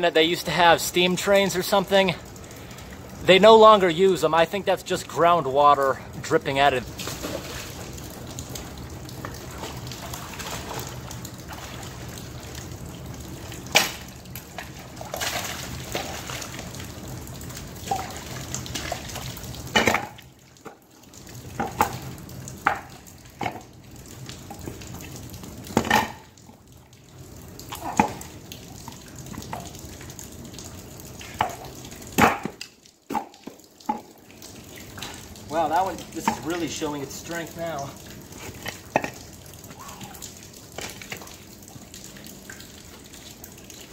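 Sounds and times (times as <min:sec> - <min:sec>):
moving water: 0:00.0 - 0:43.9
water drips plopping: 0:00.0 - 0:43.9.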